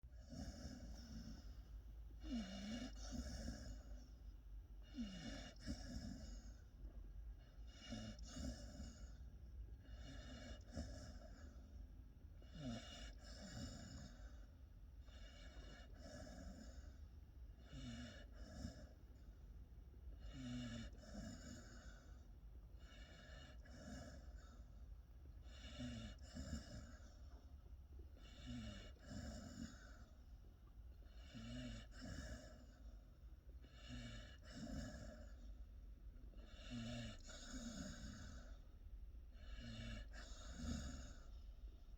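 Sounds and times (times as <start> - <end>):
puppy snoring: 0.1 - 19.4, 20.1 - 41.9.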